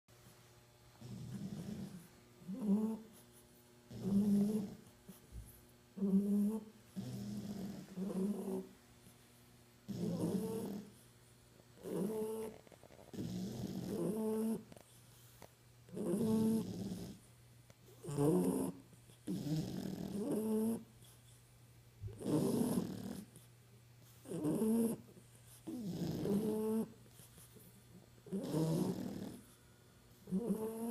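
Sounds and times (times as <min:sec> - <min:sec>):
quiet breaths: 0:00.2 - 0:30.9
puppies snoring: 0:00.8 - 0:30.9.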